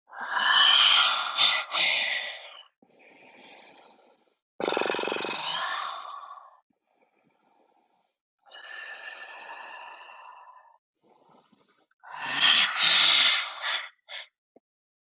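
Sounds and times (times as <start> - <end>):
person breathing deeply: 0.1 - 4.4, 5.4 - 14.4.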